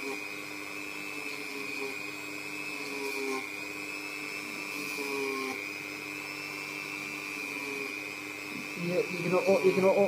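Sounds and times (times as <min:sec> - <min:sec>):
rotary tool grinding metal: 0:00.0 - 0:10.0.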